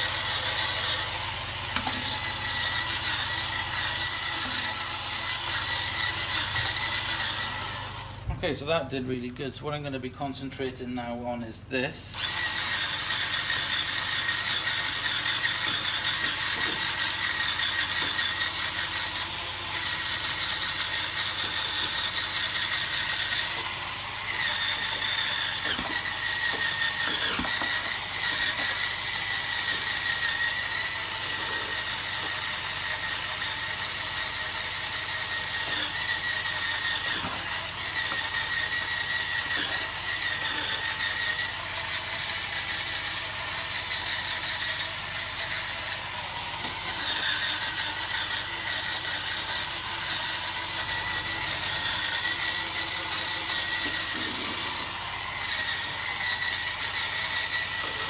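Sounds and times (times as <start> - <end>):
scrubber motor whining: 0.0 - 8.4, 12.1 - 58.0.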